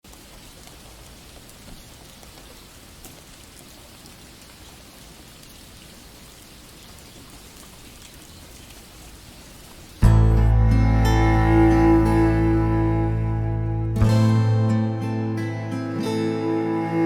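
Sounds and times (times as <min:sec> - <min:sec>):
steady rain patter: 0:00.0 - 0:17.0.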